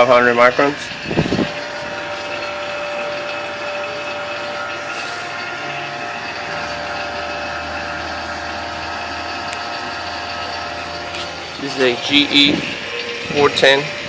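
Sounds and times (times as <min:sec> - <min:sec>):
vacuum pump running: 0:00.0 - 0:14.0.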